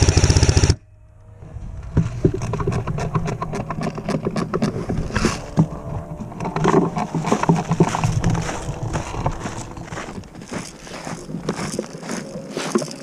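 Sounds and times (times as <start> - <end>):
wind on microphone: 1.3 - 11.8.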